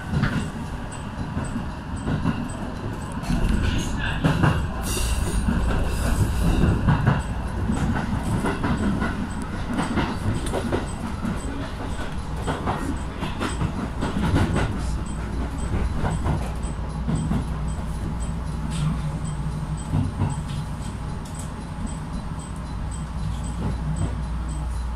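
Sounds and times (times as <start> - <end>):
train wheels rumbling: 0.0 - 24.9.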